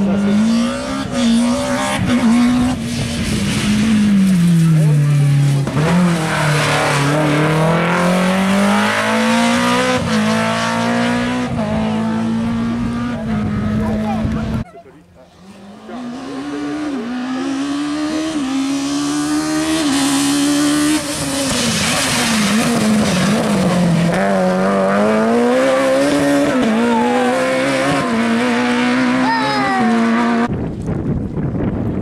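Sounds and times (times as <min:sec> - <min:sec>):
rally car engine at high revs: 0:00.0 - 0:14.6, 0:15.3 - 0:30.5.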